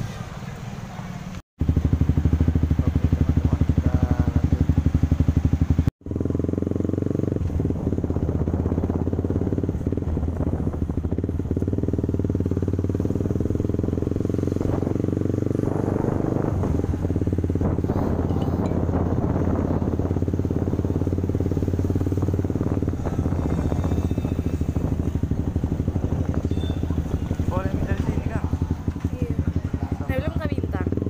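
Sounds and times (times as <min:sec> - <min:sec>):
motorcycle engine: 0:00.0 - 0:31.0.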